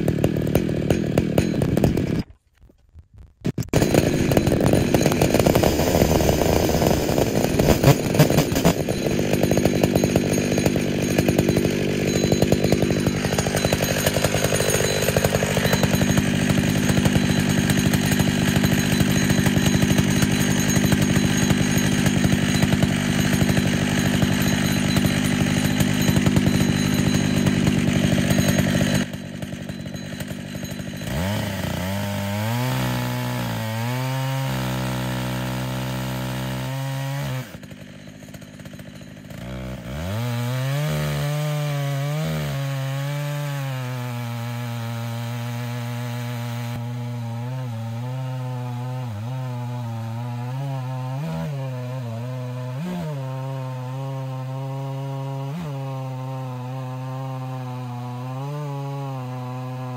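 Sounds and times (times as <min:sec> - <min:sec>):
chainsaw engine running: 0:00.0 - 0:02.3, 0:03.5 - 0:59.9.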